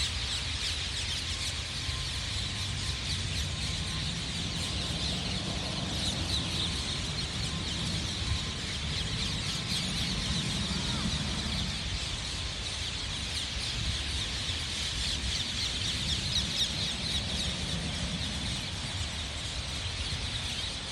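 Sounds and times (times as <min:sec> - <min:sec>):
small birds chirping: 0:00.0 - 0:20.9
steady low rumble: 0:00.0 - 0:20.9.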